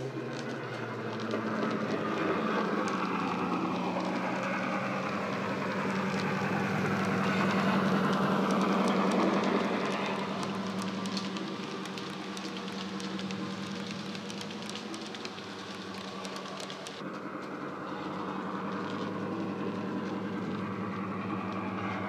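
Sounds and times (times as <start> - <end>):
model train diesel engine sound: 0.0 - 22.0
wheels clicking on track: 0.0 - 22.0.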